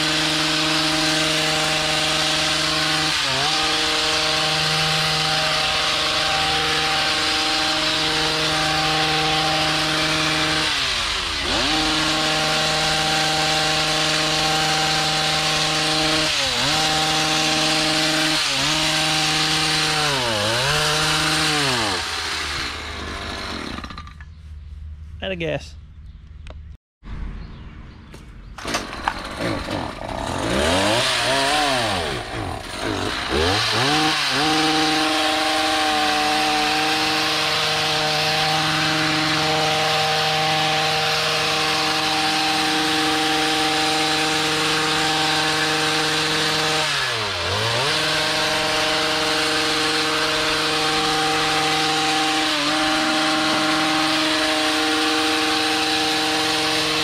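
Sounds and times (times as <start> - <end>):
two-stroke engine revving: 0.0 - 24.1, 28.6 - 57.0.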